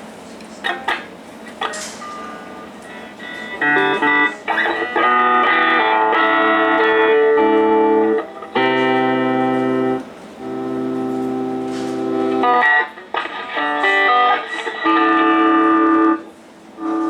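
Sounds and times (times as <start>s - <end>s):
electric guitar chords ringing: 0.6s - 17.0s.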